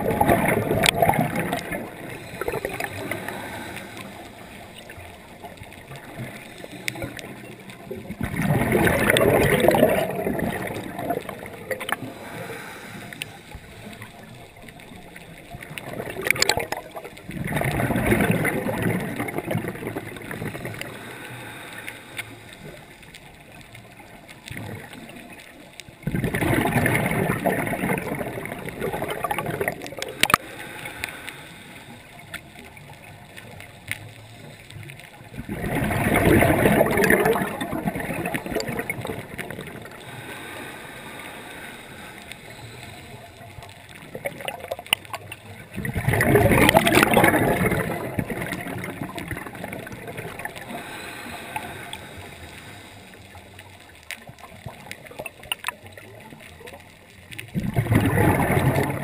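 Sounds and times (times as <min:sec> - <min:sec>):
gurgling rush of exhaled bubbles: 0:00.0 - 0:31.6, 0:34.8 - 0:59.0
muffled underwater hiss: 0:00.0 - 0:59.0.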